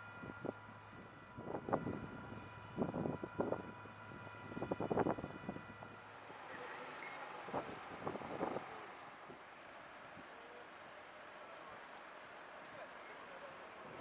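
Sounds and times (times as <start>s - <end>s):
fire engine drone: 0.0s - 14.0s.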